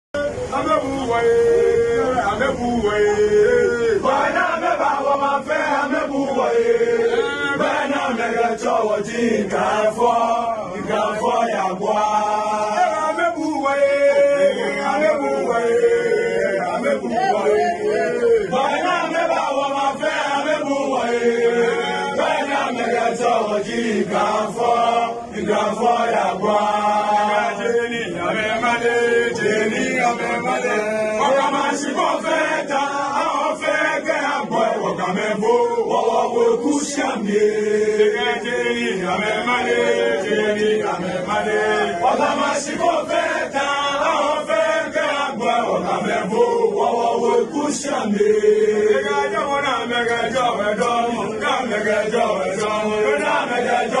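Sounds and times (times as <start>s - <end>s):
men chanting together: 0.3s - 54.0s.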